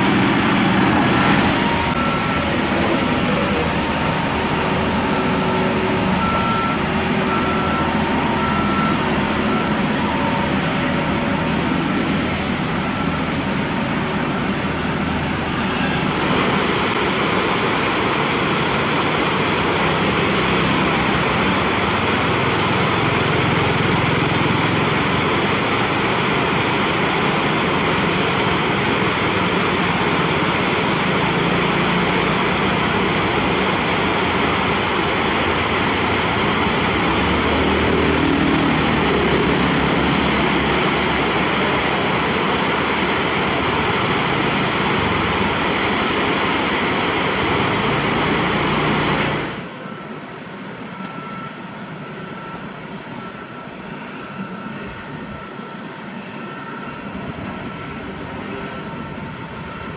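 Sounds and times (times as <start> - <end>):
river water rushing over weir: 0.0 - 50.9.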